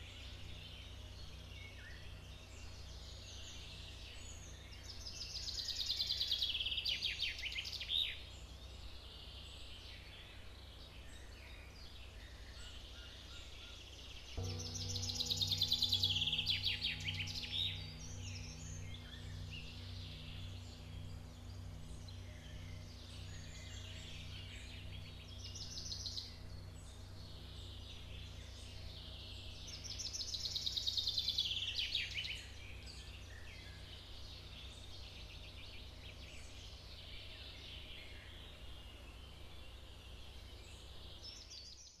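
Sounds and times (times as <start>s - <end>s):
pulsing low drone: 0.0s - 12.6s, 13.9s - 40.8s
birdsong trills: 0.0s - 42.0s.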